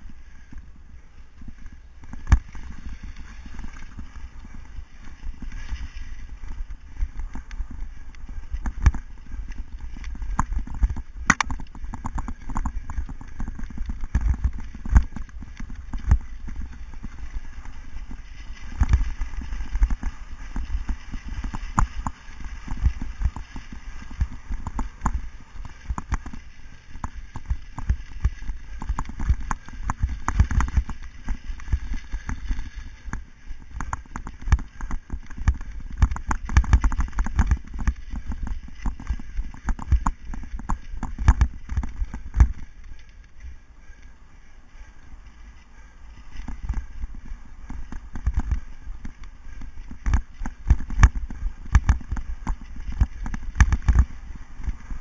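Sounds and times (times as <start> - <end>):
bike clattering and rattling: 0.3 - 55.0.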